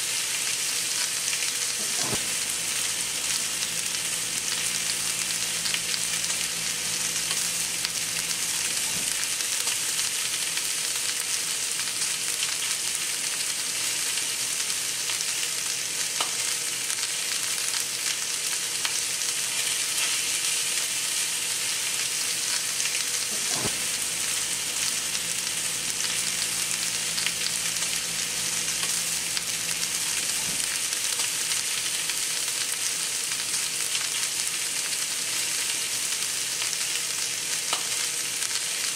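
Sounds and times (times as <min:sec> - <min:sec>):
steaks sizzling in a pan: 0:00.0 - 0:38.9.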